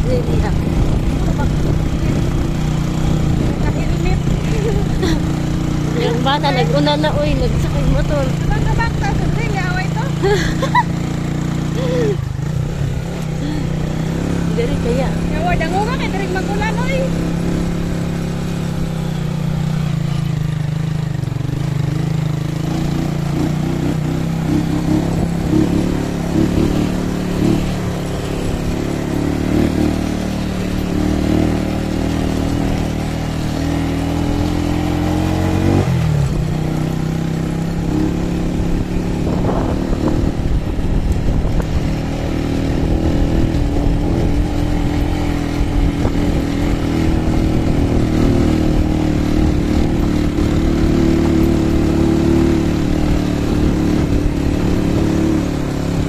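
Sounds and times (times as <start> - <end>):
small motorcycle engine: 0.0 - 56.0.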